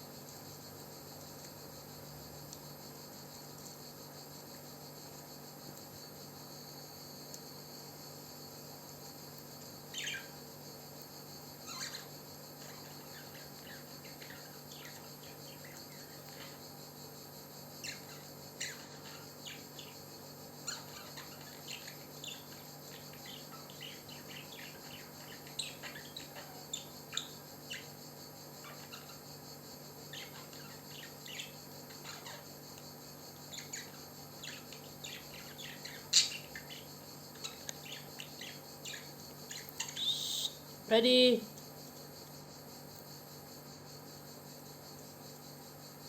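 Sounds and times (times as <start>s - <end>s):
crickets droning: 0.0s - 46.0s.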